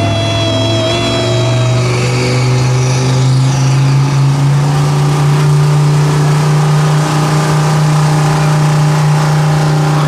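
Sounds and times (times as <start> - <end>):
pickup truck engine high revs: 0.0 - 10.0.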